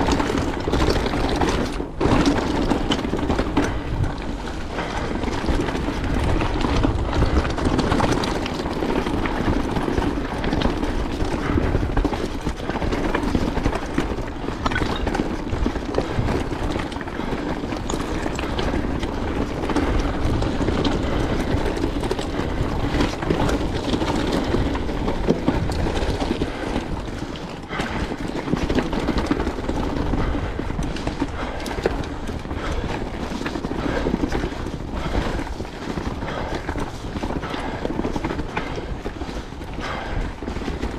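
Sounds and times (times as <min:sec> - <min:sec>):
bike rattling: 0:00.0 - 0:40.9
wind rumble on microphone: 0:00.0 - 0:40.9.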